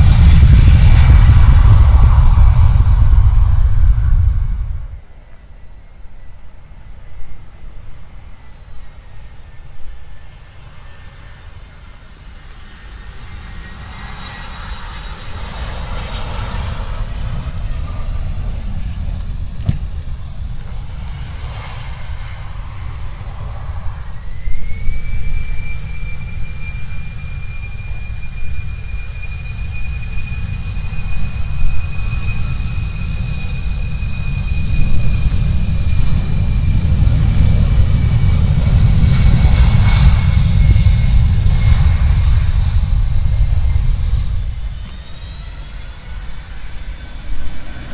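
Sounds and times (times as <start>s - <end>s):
airliner engines rumbling: 0.0s - 47.9s
high engine whine: 0.0s - 47.9s.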